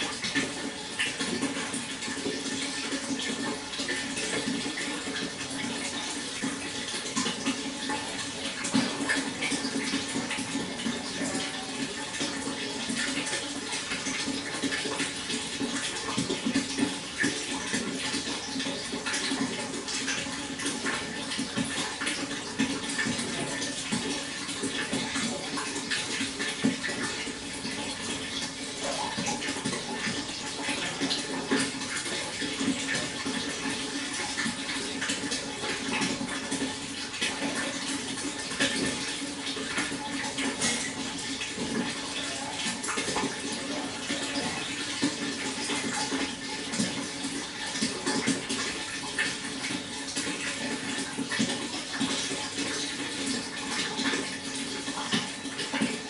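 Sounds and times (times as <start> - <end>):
water flowing and splashing: 0.0 - 56.0.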